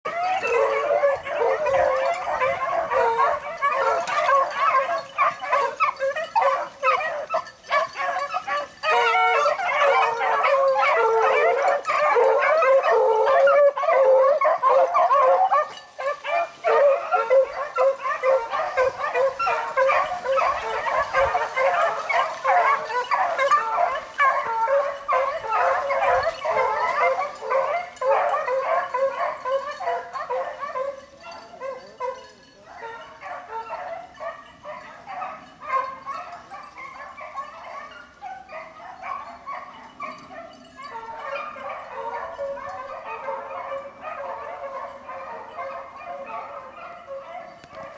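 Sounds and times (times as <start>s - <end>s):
pack of hounds baying: 0.0s - 47.9s.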